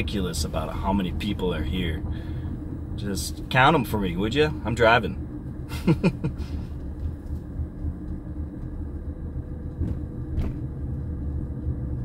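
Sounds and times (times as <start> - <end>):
car interior engine and road rumble: 0.0 - 12.0.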